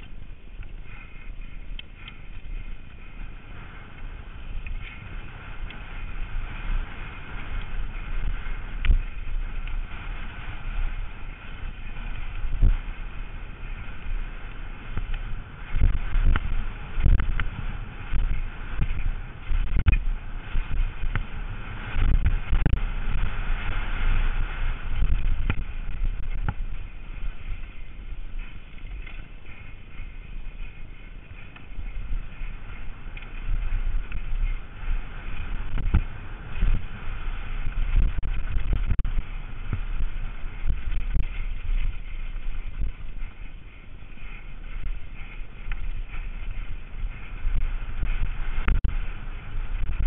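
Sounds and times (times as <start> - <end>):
bike tyres rumbling and rattling: 0.0 - 50.0
sharp clacks of bike: 0.0 - 50.0
wind rushing over microphone: 0.0 - 50.0.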